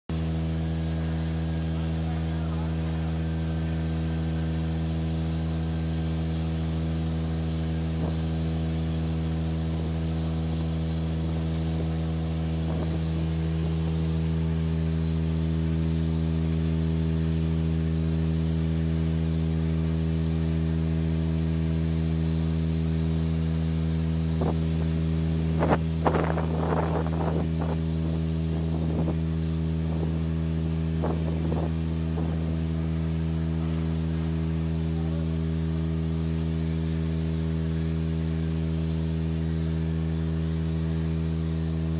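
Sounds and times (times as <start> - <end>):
pressure washer humming: 0.1 - 41.9
water jet hissing on concrete: 0.1 - 41.9.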